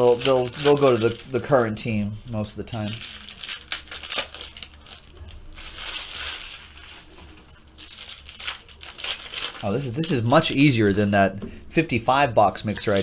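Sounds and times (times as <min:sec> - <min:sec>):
plastic wrapper crinkling: 0:00.0 - 0:01.7, 0:02.7 - 0:11.2, 0:12.5 - 0:13.0.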